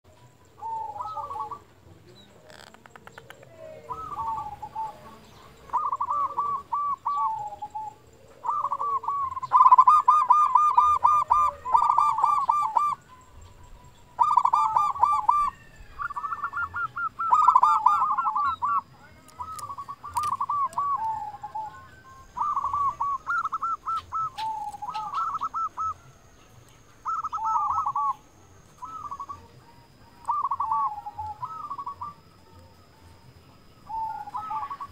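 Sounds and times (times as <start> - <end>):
dove cooing: 0.1 - 34.9.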